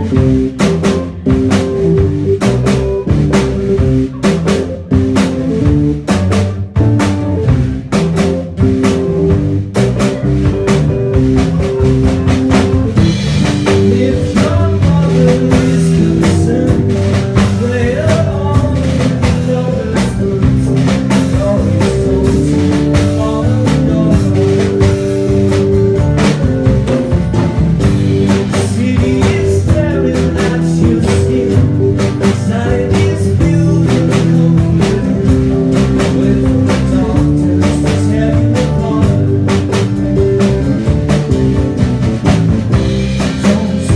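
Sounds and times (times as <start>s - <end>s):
bass: 0.0s - 43.9s
drum kit beat: 0.0s - 43.9s
guitar: 0.0s - 43.9s.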